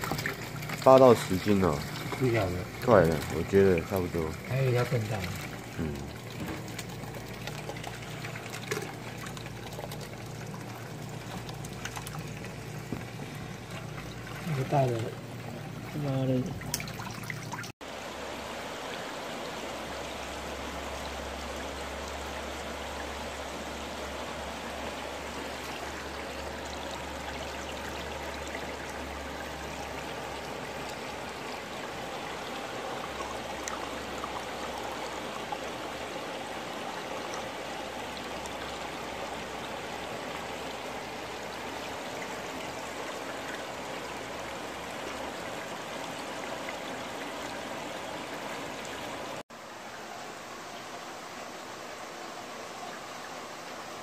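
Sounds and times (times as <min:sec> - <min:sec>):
water pouring into a tank: 0:00.0 - 0:17.7, 0:18.8 - 0:49.4.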